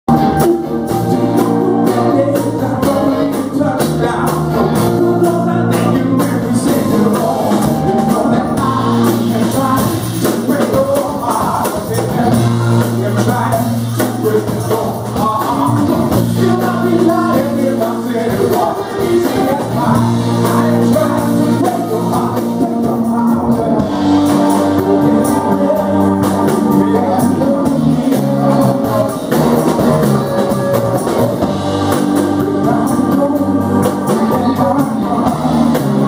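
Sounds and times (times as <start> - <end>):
lead singer singing: 0.1 - 36.0
live soul band playing: 0.1 - 36.0.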